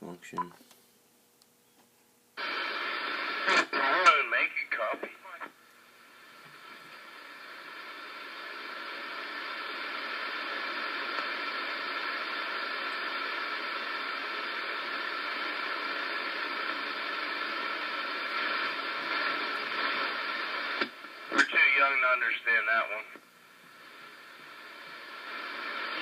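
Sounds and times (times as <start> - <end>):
radio static hiss: 2.4 - 26.0.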